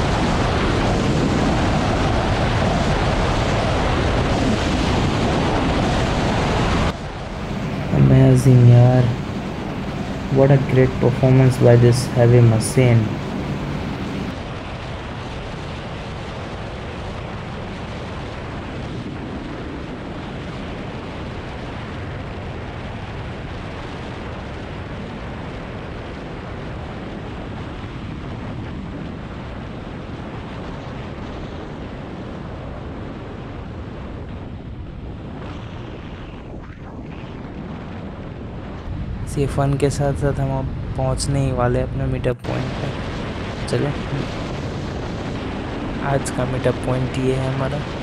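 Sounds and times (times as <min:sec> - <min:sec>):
rushing wind on microphone: 0:00.0 - 0:48.0.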